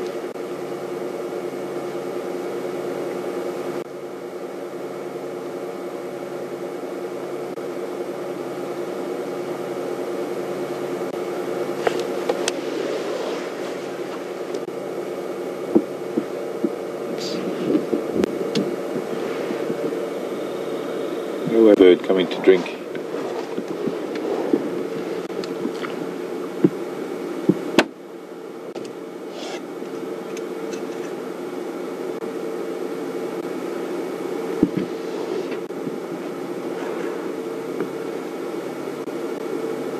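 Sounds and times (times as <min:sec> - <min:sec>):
motor hum: 0:00.0 - 0:39.9.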